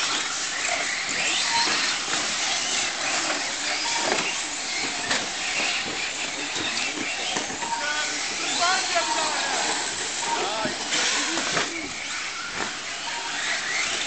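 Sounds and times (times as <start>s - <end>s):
electric toy trucks racing: 0.0s - 14.0s.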